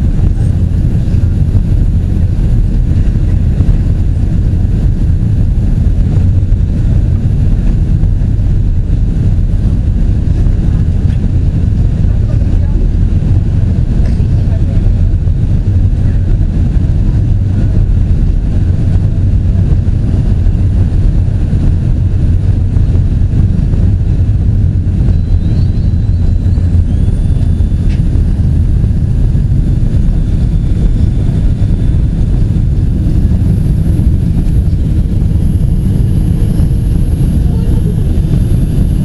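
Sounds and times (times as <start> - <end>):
faint high jet whine: 0.0 - 39.0
jet engines low rumble: 0.0 - 39.0.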